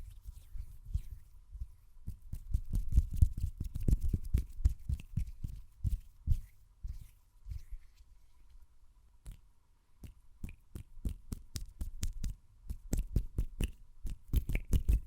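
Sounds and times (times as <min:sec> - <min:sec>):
hands tapping and rubbing microphone: 0:00.0 - 0:08.6, 0:10.0 - 0:15.0.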